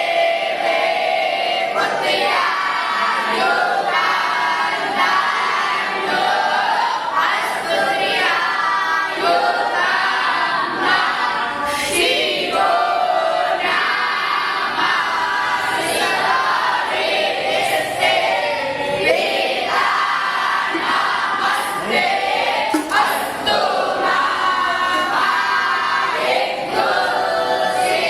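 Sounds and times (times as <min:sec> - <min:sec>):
boys chanting in unison: 0:00.0 - 0:28.0.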